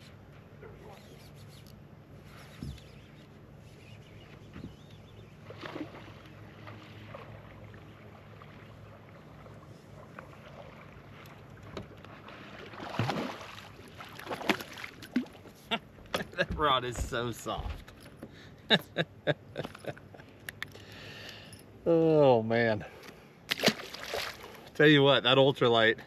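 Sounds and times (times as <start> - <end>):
boat motor hum: 0.0 - 25.0.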